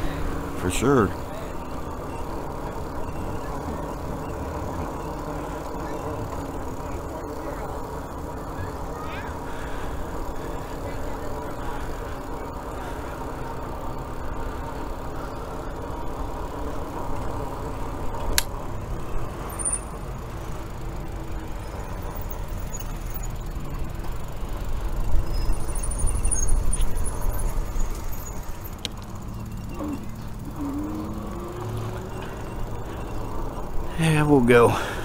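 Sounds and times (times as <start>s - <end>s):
tyres and wind rumbling: 0.0s - 35.0s.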